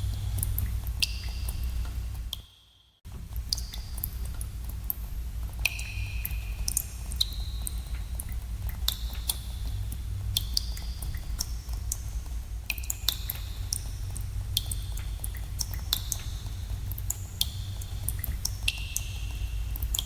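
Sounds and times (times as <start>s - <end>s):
steady low rumble: 0.0s - 2.4s, 3.1s - 20.0s.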